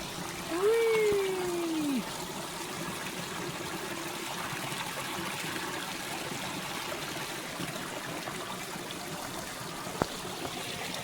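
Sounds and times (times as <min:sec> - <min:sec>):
creek water over rocks: 0:00.0 - 0:11.0.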